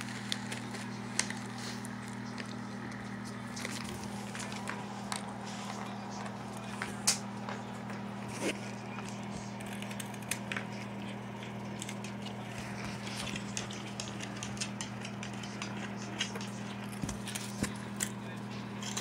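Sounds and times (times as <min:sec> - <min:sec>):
cat crunching a snack: 0:00.0 - 0:19.0
steady low hum: 0:00.0 - 0:19.0.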